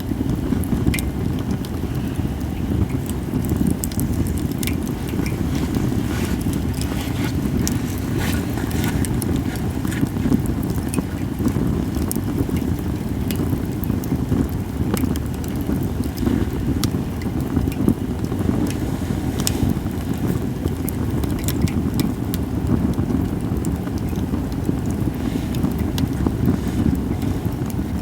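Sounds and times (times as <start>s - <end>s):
campfire crackling and popping: 0.0s - 28.0s
fire low rumble: 0.0s - 28.0s.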